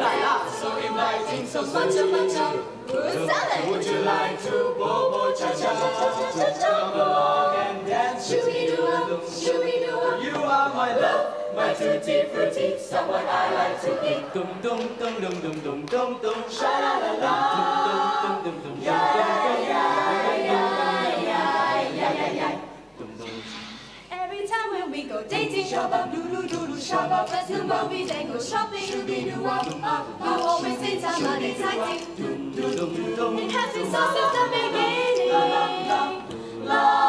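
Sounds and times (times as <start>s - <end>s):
choir singing in harmony: 0.0s - 37.0s
vocal percussion: 0.0s - 37.0s.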